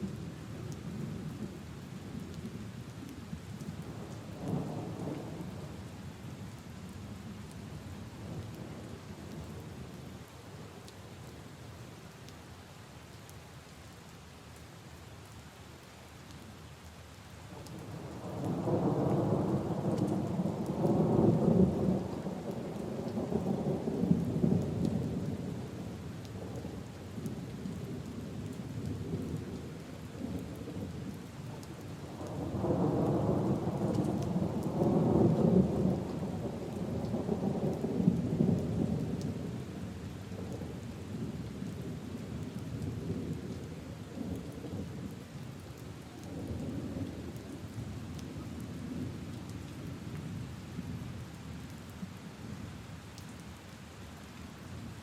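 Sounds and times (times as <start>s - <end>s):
rain on puddles and leaves: 0.0s - 55.0s.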